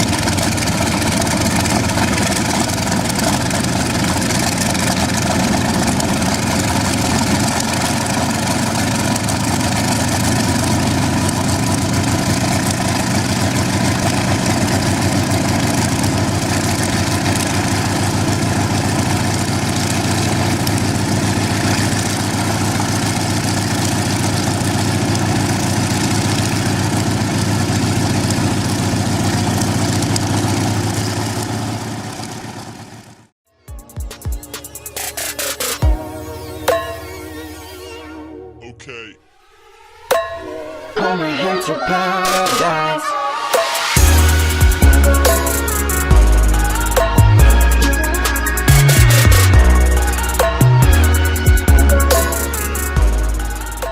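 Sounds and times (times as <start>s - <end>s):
helicopter engine running: 0.0s - 33.3s, 43.7s - 53.9s.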